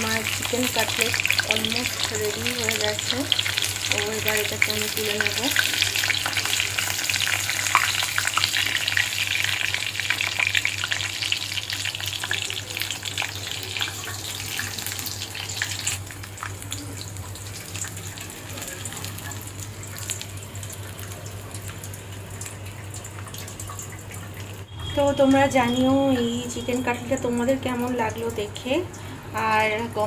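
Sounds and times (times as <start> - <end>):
chicken deep-frying in oil: 0.0 - 30.0.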